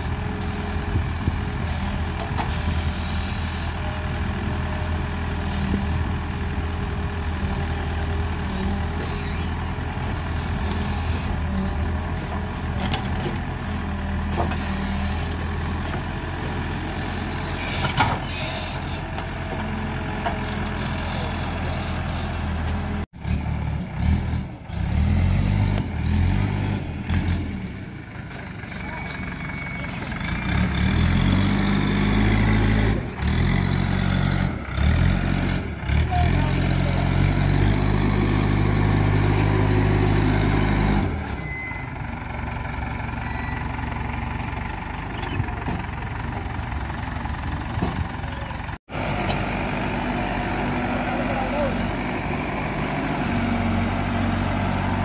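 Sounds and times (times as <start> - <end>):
diesel engine working under load: 0.0 - 55.0
diesel machinery engine running: 0.0 - 55.0.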